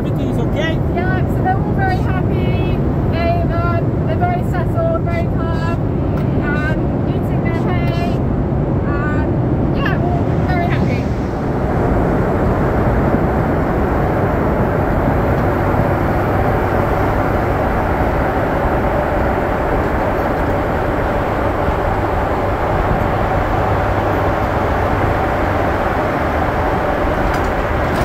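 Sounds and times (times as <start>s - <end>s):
aircraft engine and airflow roar: 0.0s - 28.0s
faint steady hum: 0.0s - 28.0s.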